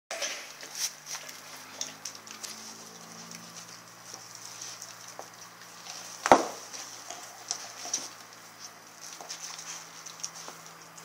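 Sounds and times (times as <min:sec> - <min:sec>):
dog chewing meat and bone: 0:00.2 - 0:11.0.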